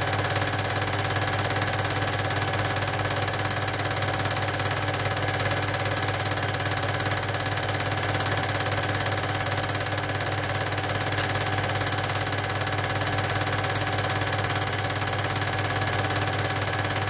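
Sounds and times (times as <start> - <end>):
film projector humming and clattering: 0.0 - 17.0.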